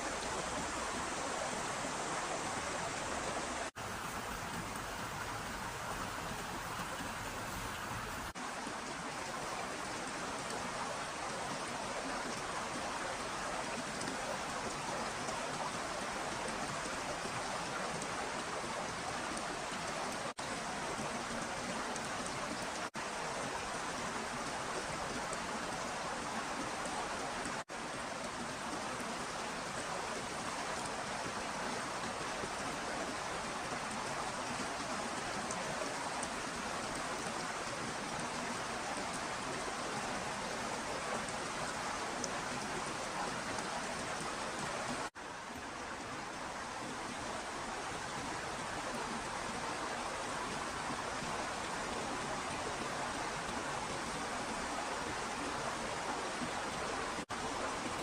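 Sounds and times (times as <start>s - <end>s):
rain-like water hiss: 0.0s - 58.0s.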